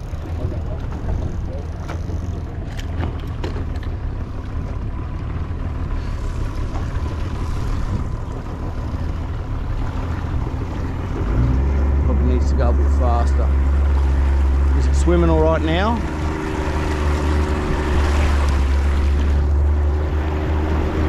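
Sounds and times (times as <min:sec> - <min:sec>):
outboard motor running: 0:00.0 - 0:21.0
water noise: 0:00.0 - 0:21.0
wind: 0:00.0 - 0:21.0.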